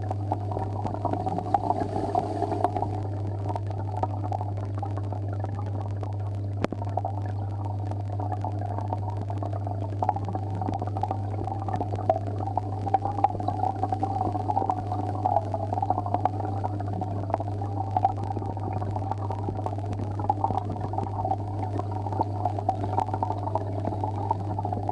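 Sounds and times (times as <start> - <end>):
air bubbling through water: 0.0 - 24.9
aquarium pump humming: 0.0 - 24.9.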